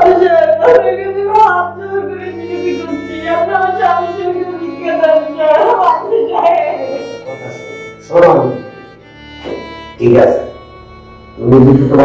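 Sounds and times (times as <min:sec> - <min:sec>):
low drone: 0:00.0 - 0:12.0.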